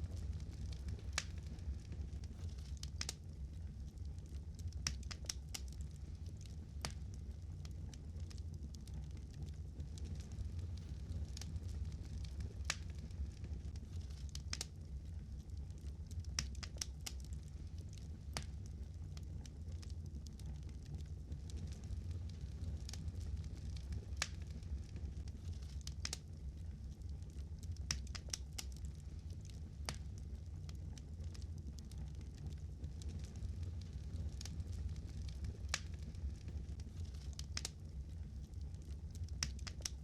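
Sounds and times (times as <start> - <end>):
low rumble: 0.0 - 40.0
wood fire crackling: 0.0 - 40.0.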